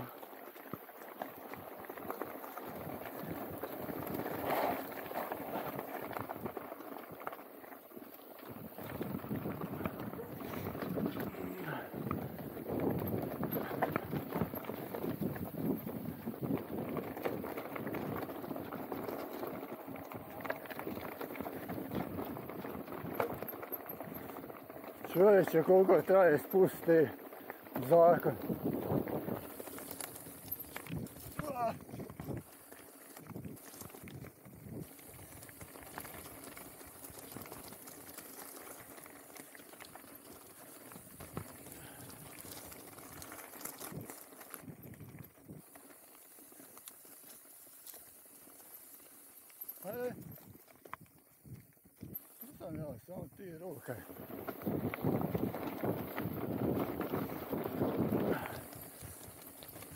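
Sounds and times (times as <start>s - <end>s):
mountain bike rattling over rocks: 0.0s - 59.9s
tyres rolling over gravel: 0.0s - 59.9s.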